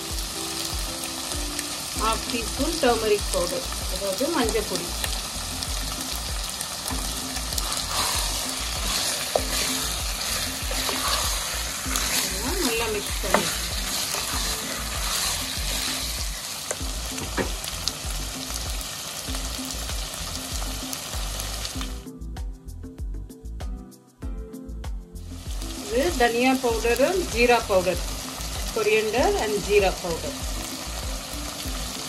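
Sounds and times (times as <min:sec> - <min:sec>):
chicken sizzling in hot oil: 0:00.0 - 0:22.0, 0:25.3 - 0:32.0.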